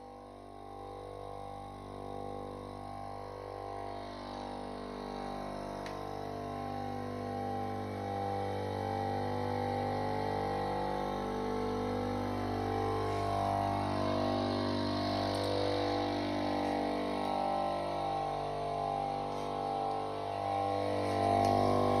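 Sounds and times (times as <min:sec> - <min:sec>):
compressor motors humming: 0:00.0 - 0:22.0.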